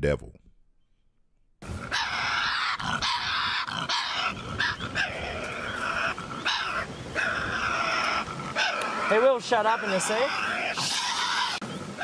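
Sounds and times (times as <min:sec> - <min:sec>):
animal shrieking: 0:01.6 - 0:12.0.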